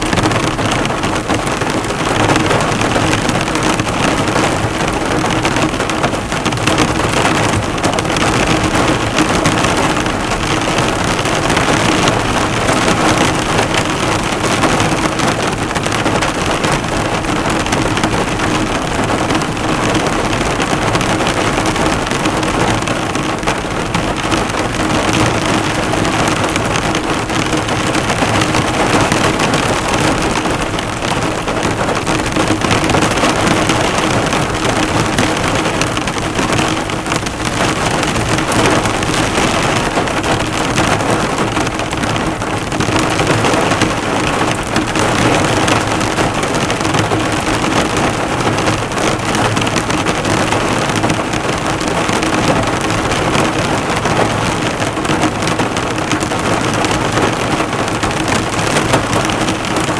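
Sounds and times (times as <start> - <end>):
heavy rain drumming on a car: 0.0 - 59.9.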